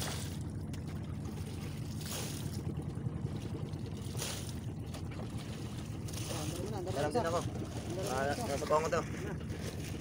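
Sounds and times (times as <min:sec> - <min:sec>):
small boat engine running: 0:00.0 - 0:10.0.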